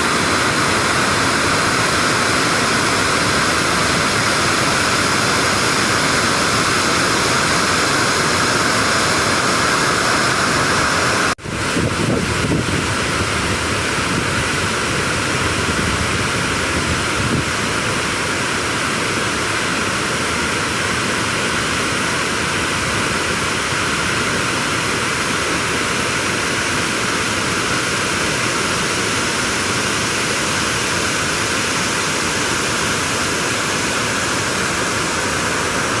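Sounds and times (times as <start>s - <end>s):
waterfall roaring: 0.0s - 36.0s.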